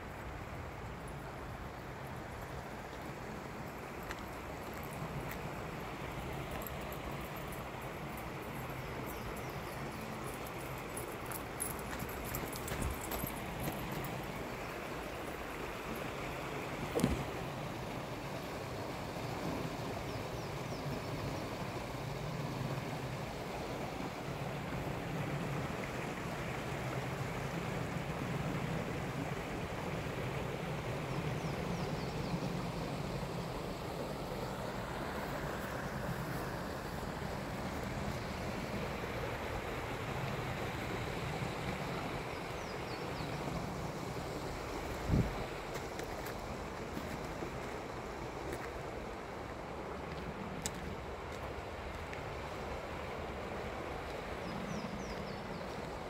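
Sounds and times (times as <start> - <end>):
river rushing over rocks: 0.0 - 56.0.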